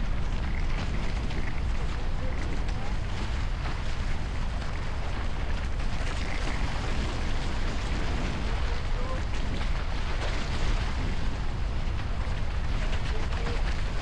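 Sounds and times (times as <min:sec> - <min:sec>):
water rushing along hulls: 0:00.0 - 0:14.0
wind buffeting microphone: 0:00.0 - 0:14.0.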